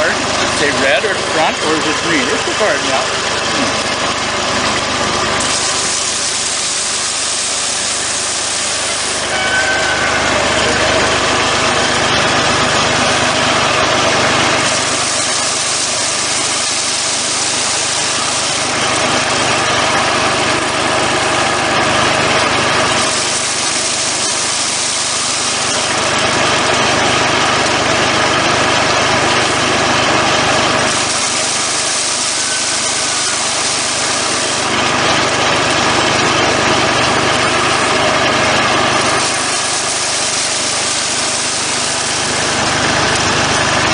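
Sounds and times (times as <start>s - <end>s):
engine running: 0.0s - 43.9s.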